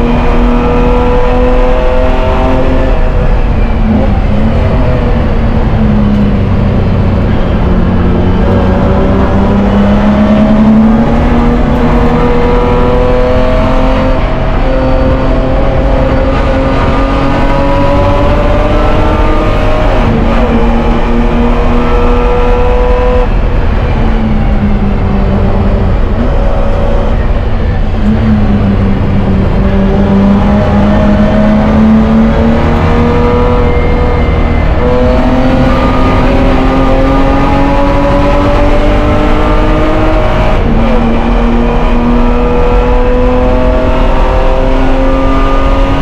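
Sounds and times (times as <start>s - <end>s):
race car engine at high revs: 0.0s - 46.0s.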